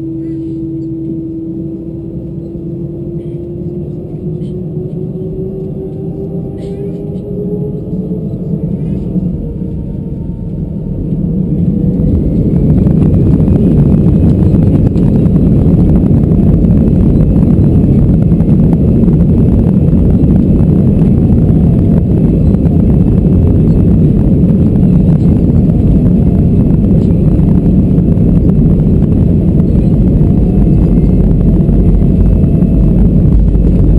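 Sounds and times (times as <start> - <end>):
jet engines spooling up: 0.0 - 33.9.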